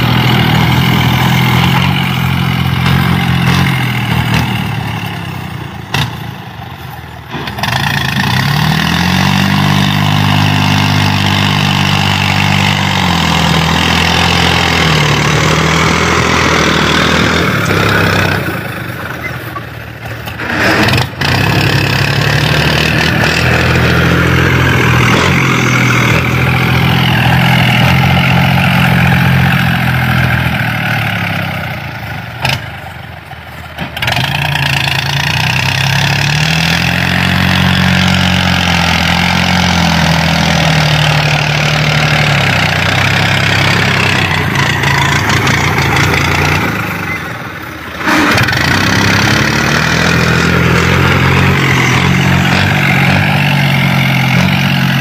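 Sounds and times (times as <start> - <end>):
tractor diesel engine revving: 0.0 - 55.0.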